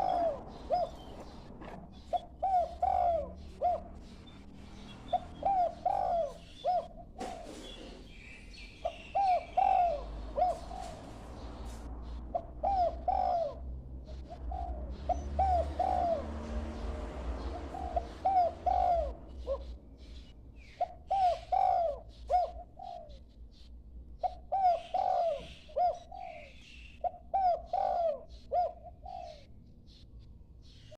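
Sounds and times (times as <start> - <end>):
dove cooing: 0.0 - 8.1, 8.8 - 23.5, 24.2 - 29.6.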